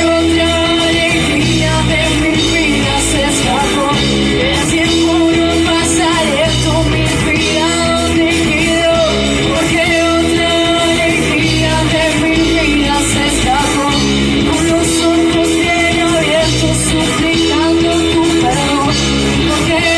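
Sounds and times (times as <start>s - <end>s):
rock song with singer: 0.0s - 19.9s.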